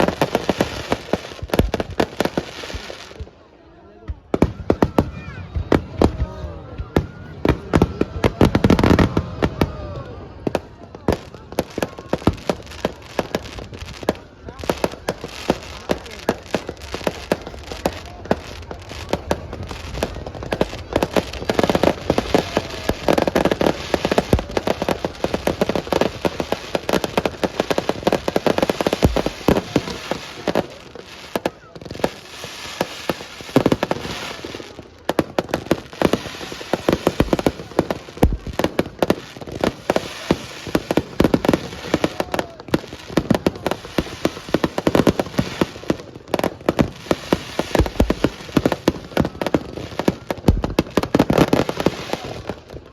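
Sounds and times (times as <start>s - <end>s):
fireworks booms: 0.0s - 52.9s
fireworks crackling and popping: 0.0s - 52.9s.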